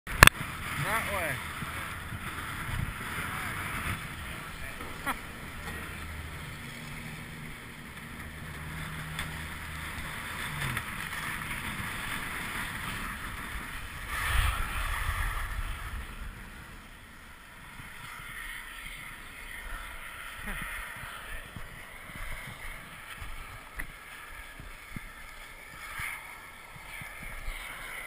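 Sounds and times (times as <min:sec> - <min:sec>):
wind on microphone: 0:00.1 - 0:07.8, 0:08.4 - 0:28.0
low hum: 0:00.1 - 0:28.0
skis scraping over snow: 0:00.1 - 0:28.0.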